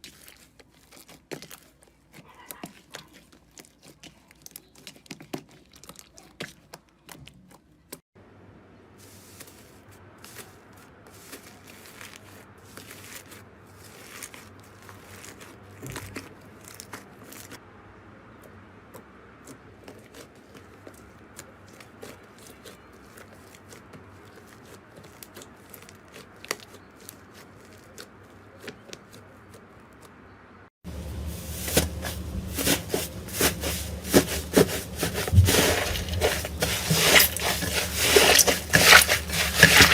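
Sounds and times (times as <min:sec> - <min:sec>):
slime squishing and crackling: 0:00.0 - 0:08.0, 0:10.3 - 0:17.6, 0:19.4 - 0:30.1, 0:30.9 - 0:39.9.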